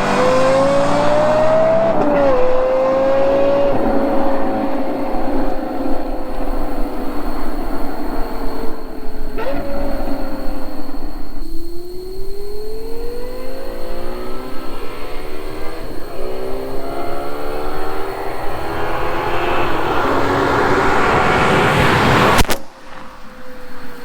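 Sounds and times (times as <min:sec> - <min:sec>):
supercar engine accelerating hard: 0:00.0 - 0:24.0.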